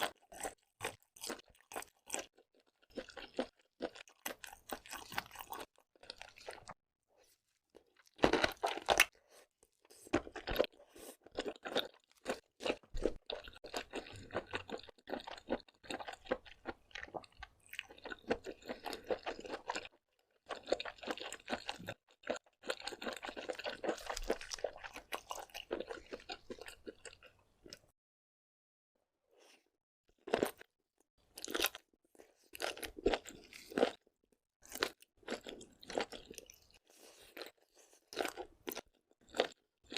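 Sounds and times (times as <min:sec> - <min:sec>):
chewing and crunching food: 0:00.0 - 0:28.0, 0:29.4 - 0:39.9.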